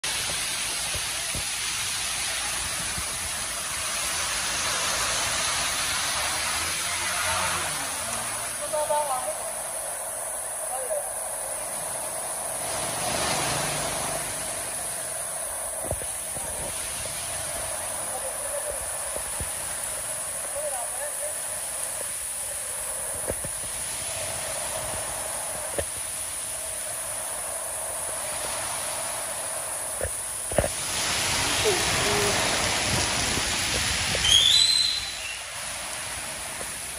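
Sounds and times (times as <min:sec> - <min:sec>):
river water rushing: 0:00.0 - 0:36.9
water pouring and splashing: 0:00.0 - 0:36.9.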